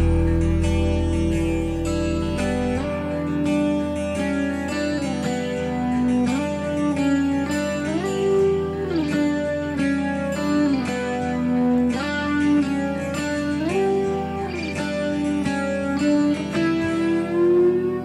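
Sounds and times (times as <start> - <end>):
sliding guitar music: 0.0 - 18.0.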